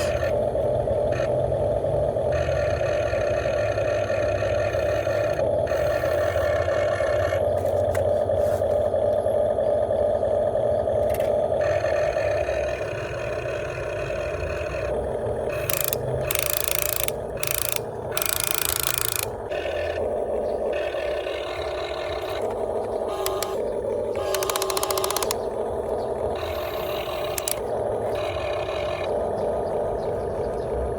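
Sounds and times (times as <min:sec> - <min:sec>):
electric gear motors whining: 0:00.0 - 0:09.9, 0:10.5 - 0:30.9.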